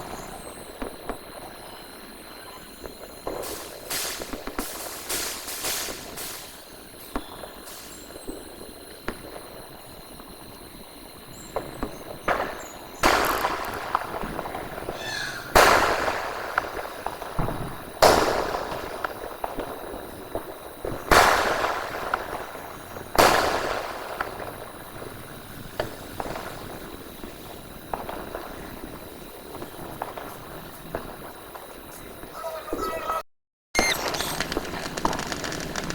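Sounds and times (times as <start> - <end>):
small firework pops: 0.0 - 1.8, 2.6 - 10.0, 11.4 - 32.3, 33.8 - 35.9
fireworks bangs: 0.0 - 33.2, 33.8 - 35.9.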